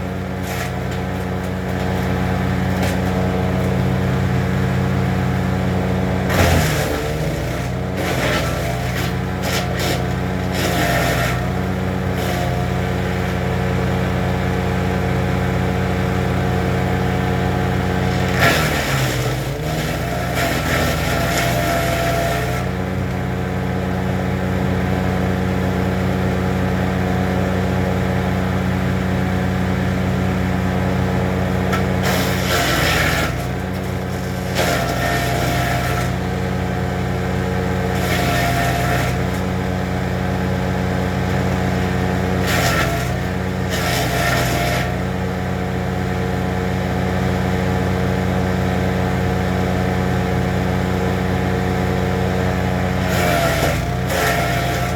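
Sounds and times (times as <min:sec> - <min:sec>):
wood chipper engine running: 0:00.0 - 0:54.9
wood crunching through chipper: 0:00.0 - 0:54.9.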